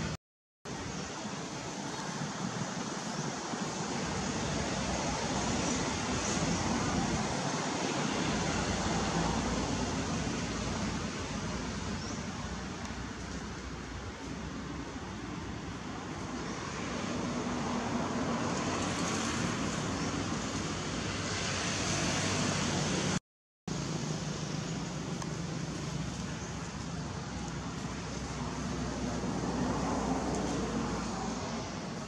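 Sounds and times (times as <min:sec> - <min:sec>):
distant road traffic: 0:00.0 - 0:32.0.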